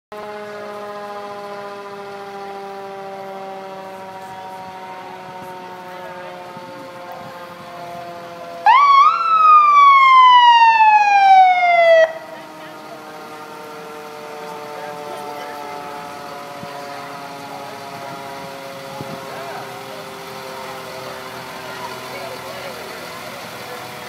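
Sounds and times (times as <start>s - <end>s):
loud siren swooping: 0.1s - 22.2s
siren winding down: 0.1s - 22.7s.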